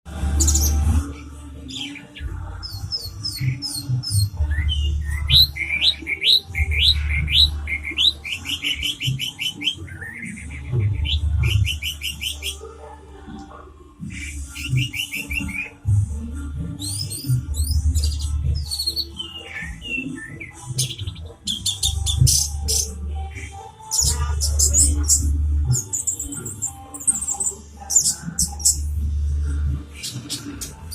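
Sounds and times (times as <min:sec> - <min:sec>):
thrush singing: 0:00.1 - 0:30.9.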